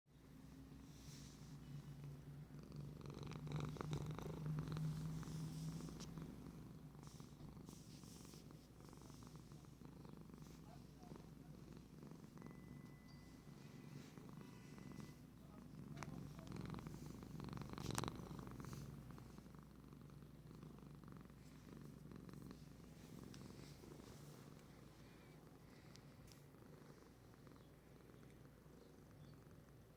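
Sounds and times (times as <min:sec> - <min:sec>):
cat purring: 0:00.4 - 0:29.9.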